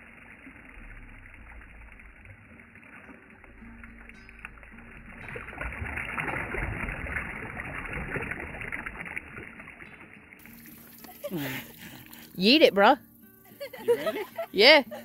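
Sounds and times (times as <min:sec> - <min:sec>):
lake water lapping over rocks: 0:00.0 - 0:12.6.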